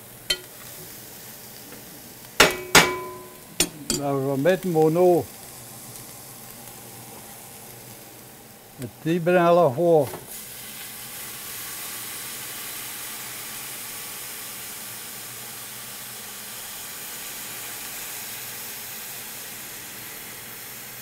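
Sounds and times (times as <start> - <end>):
water hissing in hot pan: 0.0 - 21.0.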